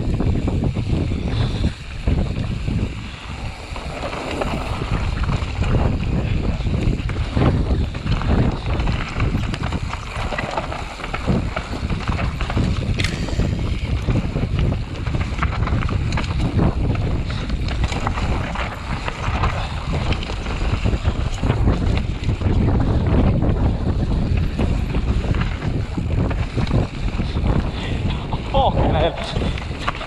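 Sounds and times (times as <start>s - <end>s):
rough rumble: 0.0s - 30.0s
wind buffeting microphone: 0.0s - 30.0s.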